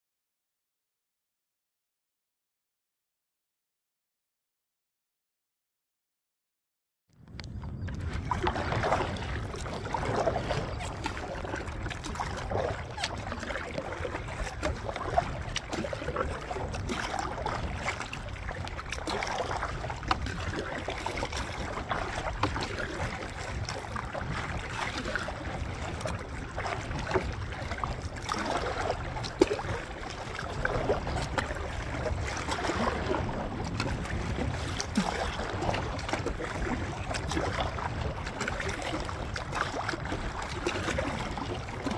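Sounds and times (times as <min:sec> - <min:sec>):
water splashing against kayak hull: 0:07.2 - 0:41.9
wind rumble on microphone: 0:07.2 - 0:41.9.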